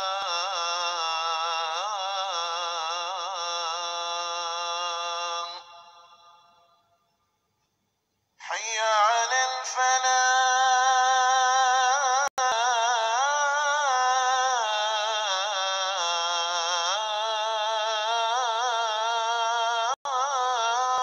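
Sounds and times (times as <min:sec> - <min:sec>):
call to prayer chanted by one voice: 0:00.0 - 0:06.6, 0:08.4 - 0:21.0.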